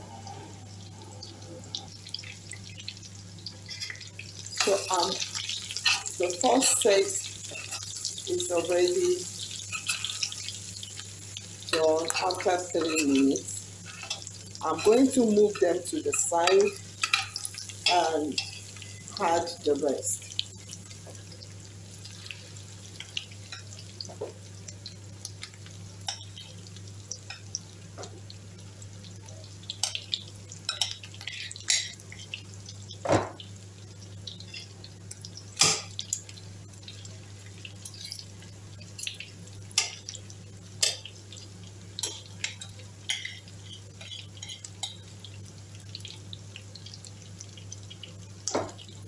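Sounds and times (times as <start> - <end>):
seeds frying in oil: 0.1 - 49.0.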